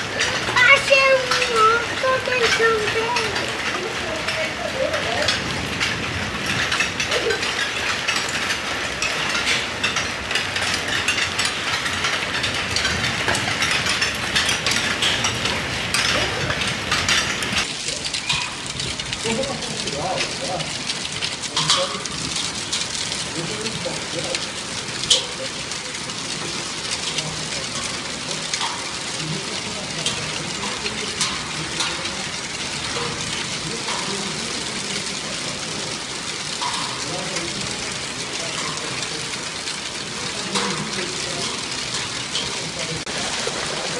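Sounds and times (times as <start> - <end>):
hailstones striking: 0.0 - 43.9
heavy rain hiss: 0.0 - 43.9.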